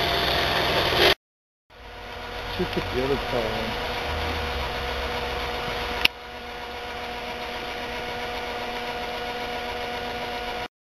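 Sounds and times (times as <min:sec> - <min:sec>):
electric motor hum and whine: 0:00.0 - 0:10.7.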